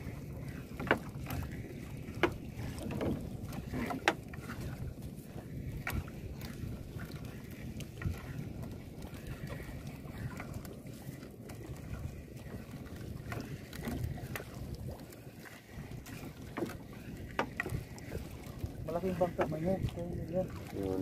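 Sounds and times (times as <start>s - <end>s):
water moving around hull: 0.0s - 21.0s
water splashes: 0.0s - 21.0s
wind rumbling on microphone: 0.0s - 21.0s.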